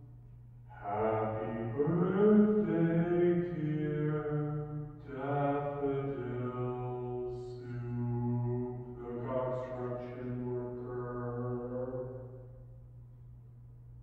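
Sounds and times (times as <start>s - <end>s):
deep slow singing voice: 0.7s - 12.9s.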